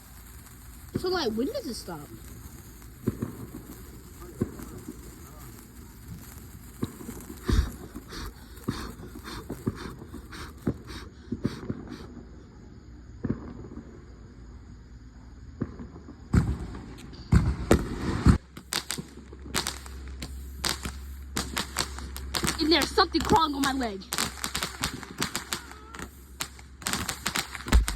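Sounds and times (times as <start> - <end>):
loud fireworks bangs: 0.0 - 12.3, 13.1 - 14.2, 15.5 - 27.9
fireworks popping and crackling: 0.0 - 14.2, 15.4 - 27.9.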